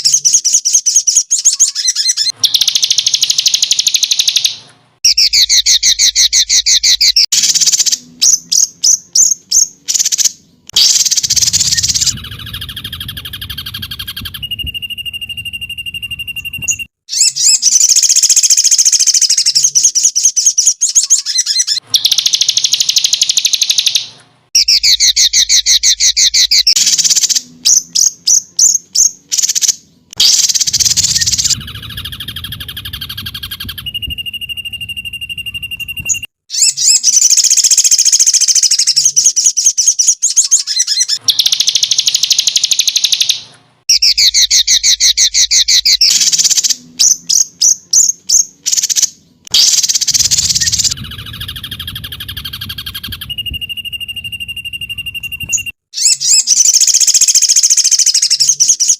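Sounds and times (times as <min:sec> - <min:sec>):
songbird chirps and trills: 0:00.0 - 0:58.9.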